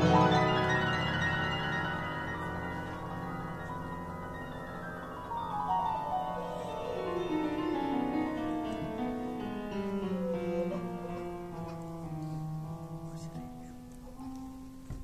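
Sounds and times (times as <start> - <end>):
solo grand piano: 0.0 - 15.0.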